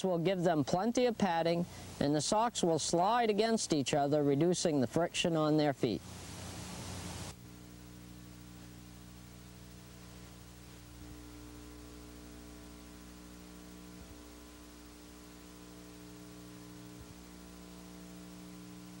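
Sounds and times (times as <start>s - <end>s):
electrical mains hum: 0.0s - 19.0s
tape hiss: 0.0s - 19.0s.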